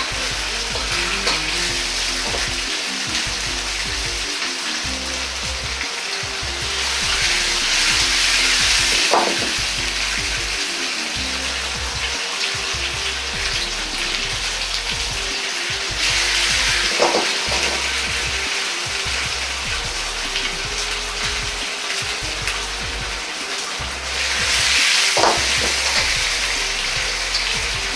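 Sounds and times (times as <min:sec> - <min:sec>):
meat sizzling in a wok: 0:00.0 - 0:27.9.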